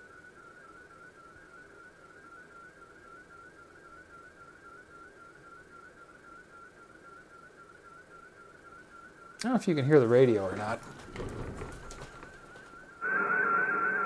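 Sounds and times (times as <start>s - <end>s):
faint warbling radio tone: 0.0s - 14.0s
radio band noise hiss: 0.0s - 14.0s.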